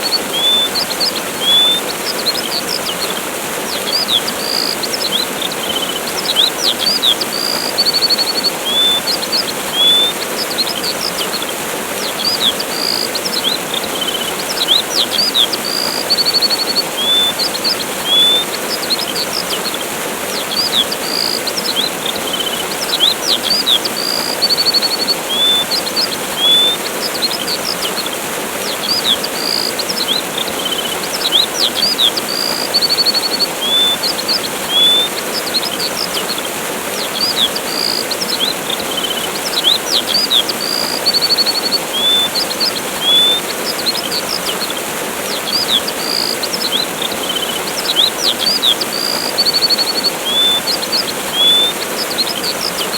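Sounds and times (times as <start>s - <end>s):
small birds chirping: 0.0s - 52.9s
waterfall rushing: 0.0s - 52.9s.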